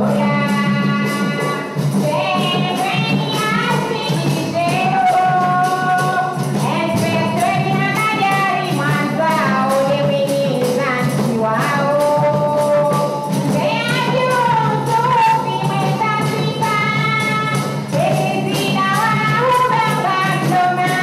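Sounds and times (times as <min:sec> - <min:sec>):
barrel drums played by hand: 0:00.0 - 0:21.0
jingling percussion: 0:00.0 - 0:21.0
person singing: 0:00.0 - 0:21.0.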